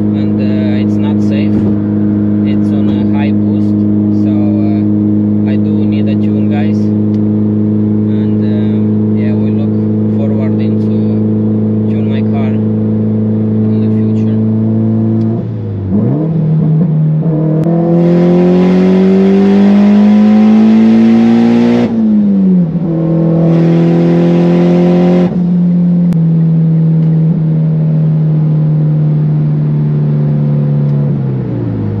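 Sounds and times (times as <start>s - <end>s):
turbocharged car engine accelerating: 0.0s - 32.0s.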